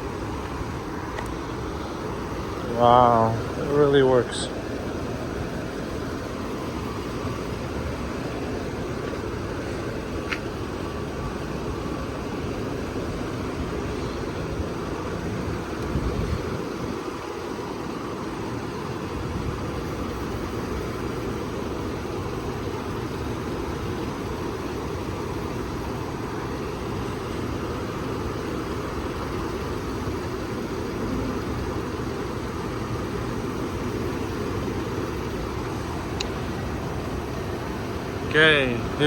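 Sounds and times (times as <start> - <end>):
low rumbling background noise: 0.0 - 39.0.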